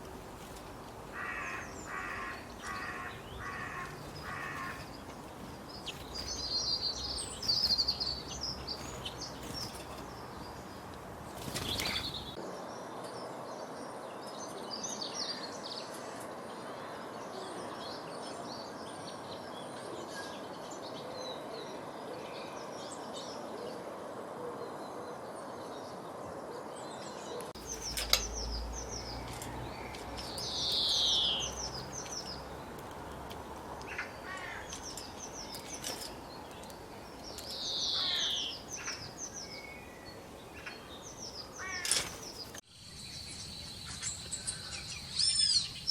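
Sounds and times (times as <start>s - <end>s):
small birds chirping: 0.0s - 16.3s, 24.6s - 45.9s.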